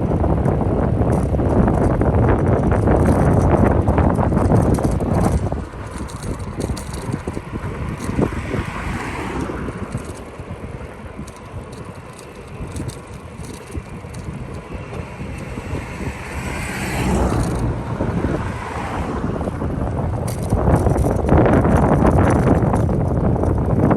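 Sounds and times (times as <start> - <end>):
bicycle rattles and clicks: 0.0 - 23.9
wind buffeting microphone: 0.0 - 23.9.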